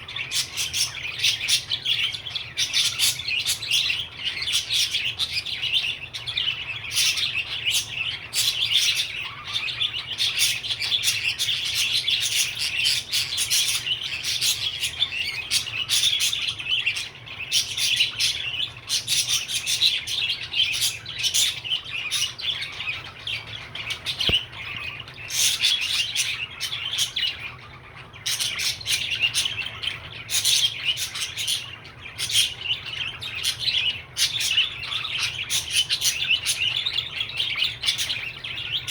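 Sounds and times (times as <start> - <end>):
budgerigar chirping and warbling: 0.0 - 38.9.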